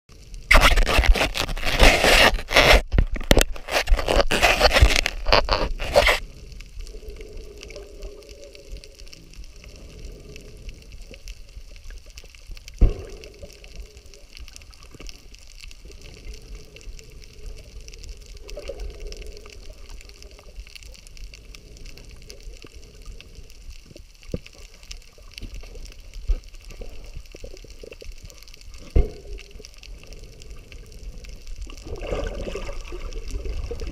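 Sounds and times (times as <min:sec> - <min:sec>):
muffled underwater ambience: 0:00.1 - 0:33.9
water rushing and scraping: 0:00.3 - 0:33.9.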